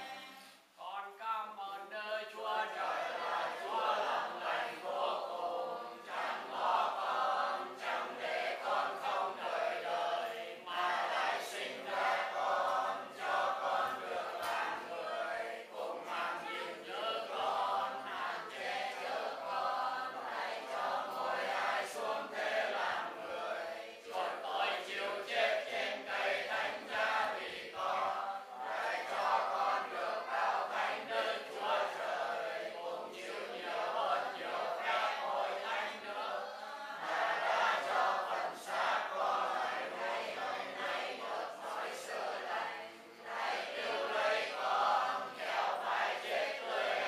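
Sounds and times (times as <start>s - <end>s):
congregation chanting prayers: 0.0s - 47.0s.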